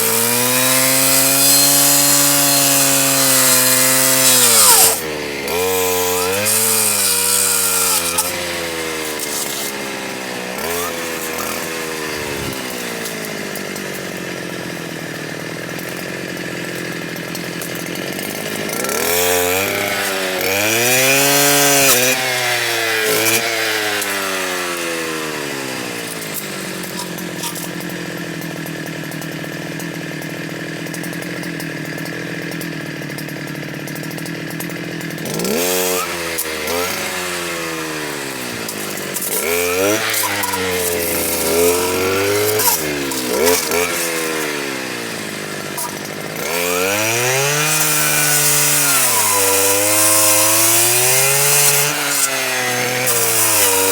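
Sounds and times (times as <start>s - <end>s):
power saw whining while cutting: 0.0s - 53.9s.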